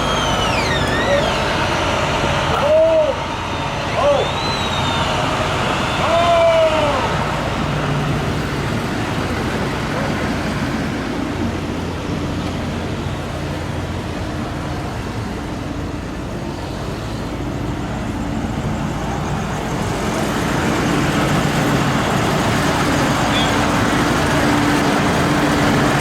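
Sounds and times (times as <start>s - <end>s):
low engine hum: 0.0s - 26.0s
road traffic noise: 0.0s - 26.0s.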